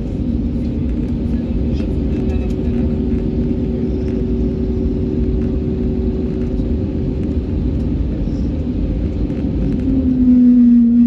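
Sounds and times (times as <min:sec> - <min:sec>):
airliner engines rumbling in cabin: 0:00.0 - 0:11.0.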